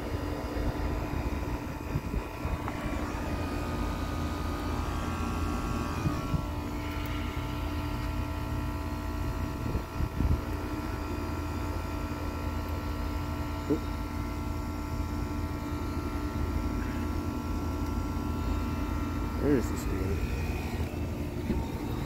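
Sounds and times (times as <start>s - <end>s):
heat pump compressor humming: 0.0s - 22.0s.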